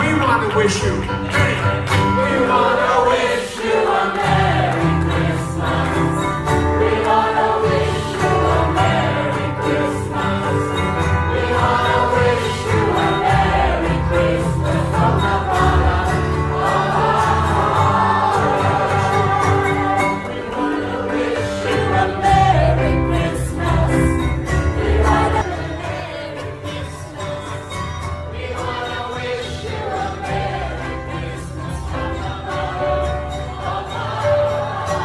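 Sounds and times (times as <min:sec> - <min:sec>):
group of people singing: 0:01.2 - 0:35.0.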